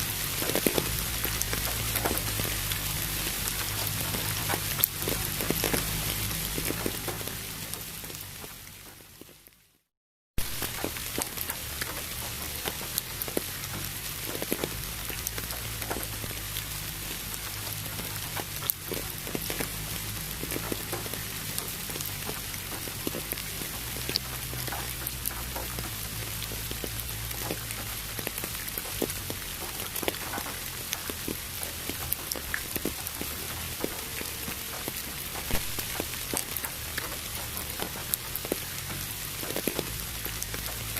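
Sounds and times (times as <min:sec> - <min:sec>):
rain drops ticking: 0:00.0 - 0:09.8, 0:10.4 - 0:40.9.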